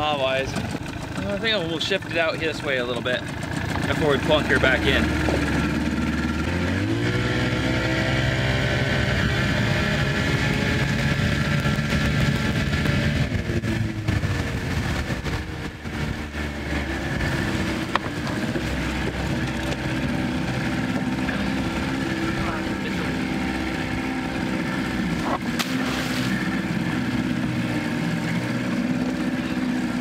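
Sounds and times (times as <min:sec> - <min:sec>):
water washing against hull: 0:00.0 - 0:06.5, 0:09.4 - 0:30.0
outboard motor running: 0:00.0 - 0:30.0.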